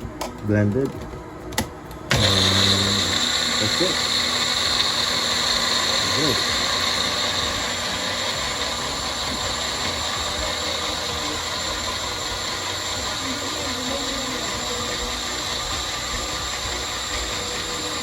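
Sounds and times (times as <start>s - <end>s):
electric blender running: 2.1s - 18.0s.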